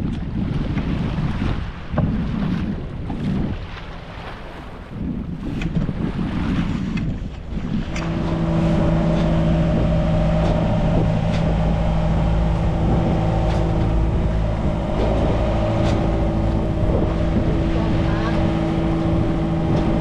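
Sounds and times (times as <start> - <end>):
wind noise: 0.0 - 20.0
boat engine drone: 0.9 - 20.0.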